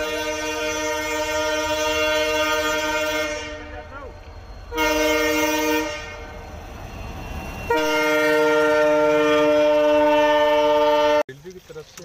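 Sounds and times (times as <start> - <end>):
train horn blasts: 0.0 - 4.1, 4.7 - 6.5, 7.3 - 11.2.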